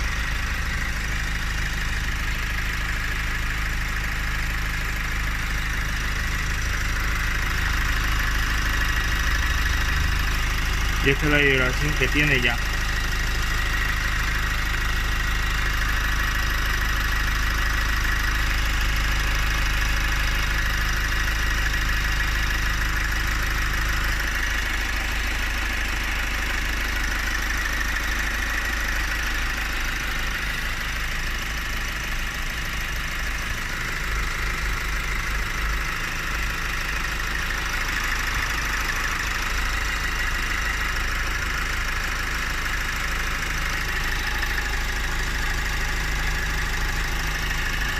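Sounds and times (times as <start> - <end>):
car engine idling with deep hum: 0.0 - 47.9.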